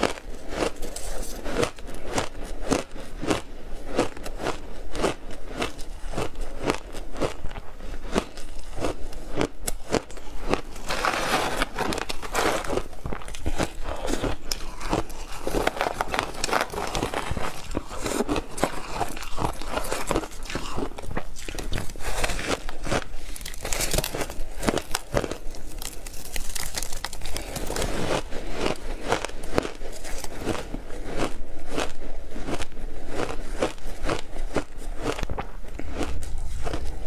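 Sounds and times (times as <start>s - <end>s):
ice being chewed and crunched: 0.0s - 37.0s.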